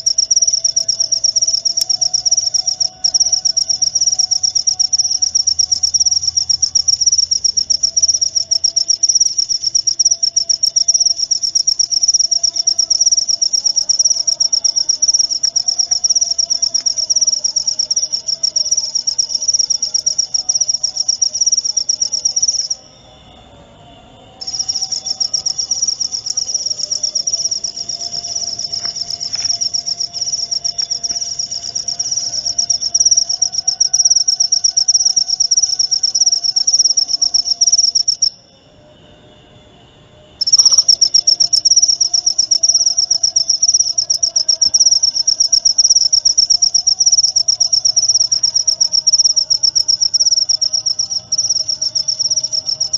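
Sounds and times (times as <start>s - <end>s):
cricket chirping trill: 0.0s - 52.9s.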